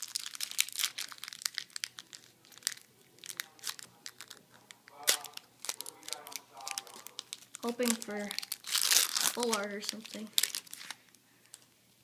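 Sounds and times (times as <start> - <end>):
foil wrapper crinkling and tearing: 0.0 - 11.7.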